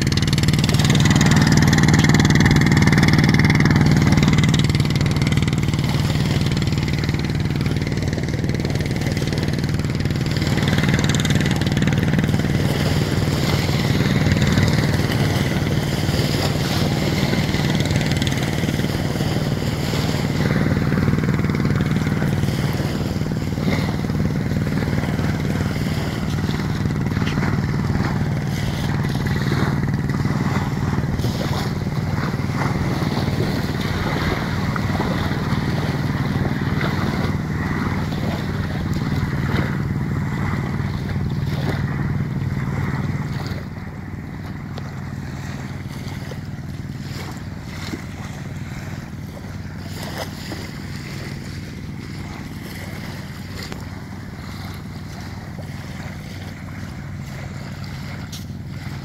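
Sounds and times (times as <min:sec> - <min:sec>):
motorboat engine humming: 0:00.0 - 0:59.0.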